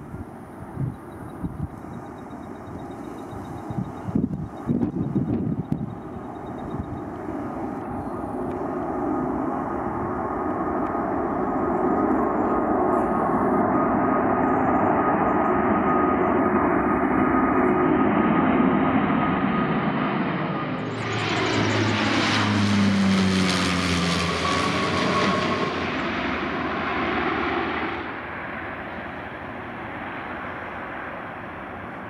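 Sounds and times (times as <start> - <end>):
jet engines rumbling: 0.0 - 32.0
propeller plane drone overhead: 0.0 - 32.0.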